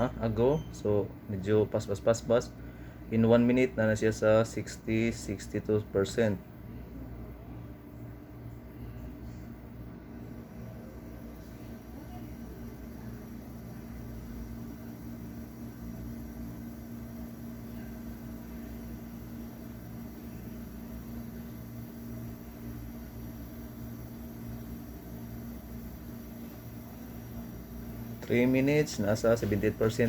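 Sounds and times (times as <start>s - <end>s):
fan hum: 0.0s - 30.0s.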